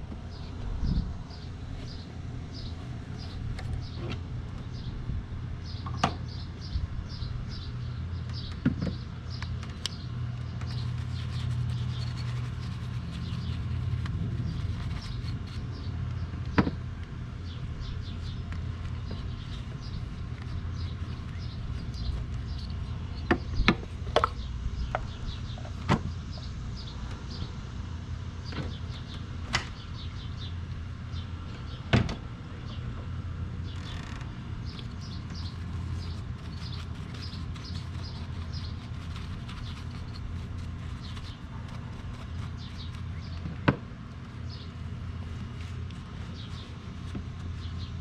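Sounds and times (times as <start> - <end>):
low hum: 0.0 - 43.4.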